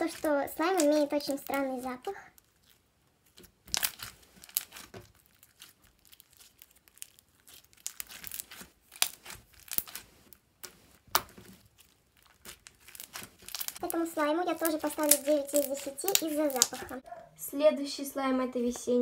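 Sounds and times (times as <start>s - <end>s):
crunching slime: 0.0s - 17.0s.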